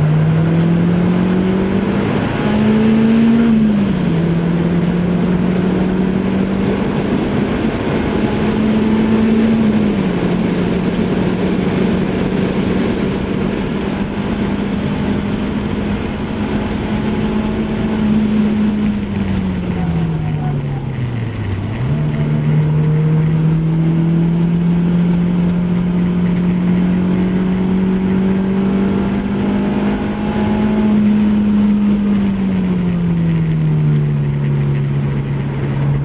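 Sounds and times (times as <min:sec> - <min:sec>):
car engine at high revs: 0:00.0 - 0:36.0
wind and tyre noise: 0:00.0 - 0:36.0.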